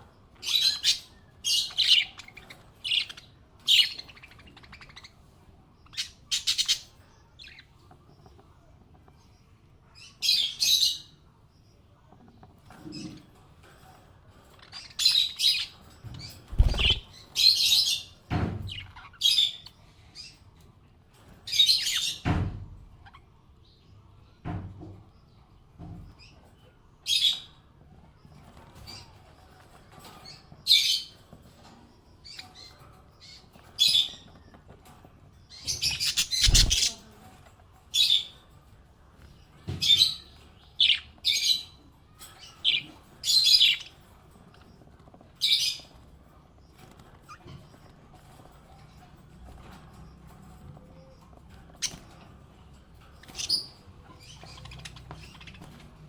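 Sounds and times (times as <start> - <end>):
parrots chirping and tweeting: 0.0 - 56.0.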